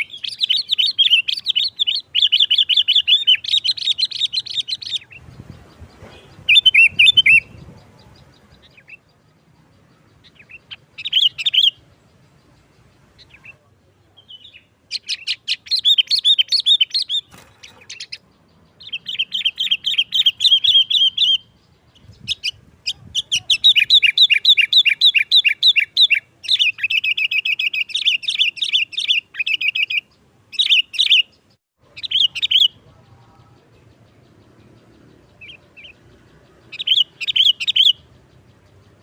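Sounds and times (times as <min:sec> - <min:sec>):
bulbul singing: 0:00.0 - 0:39.0.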